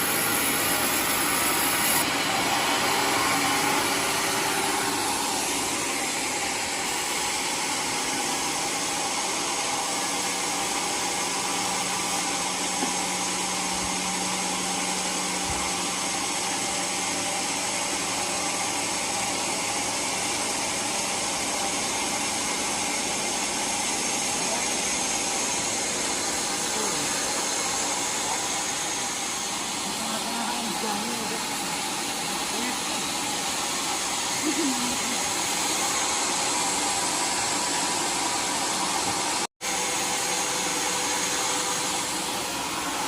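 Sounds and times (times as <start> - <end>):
sawmill running: 0.0 - 43.0.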